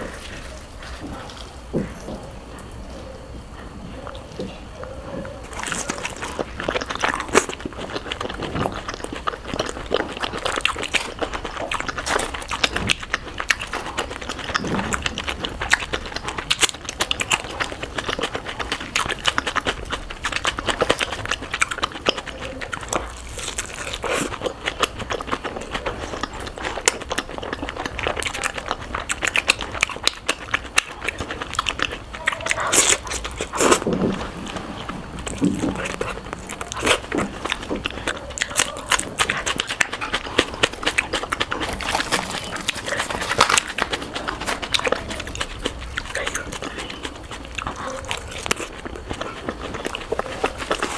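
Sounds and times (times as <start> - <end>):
crunching and chewing: 0.0 - 50.9.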